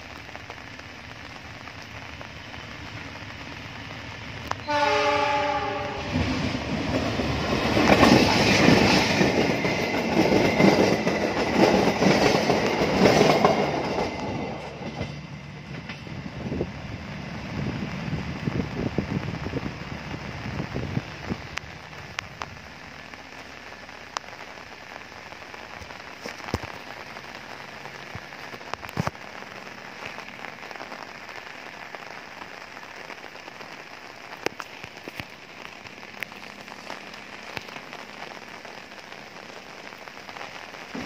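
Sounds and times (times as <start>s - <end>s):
sharp rain taps: 0.0s - 41.0s
steady rain hiss: 0.0s - 41.0s.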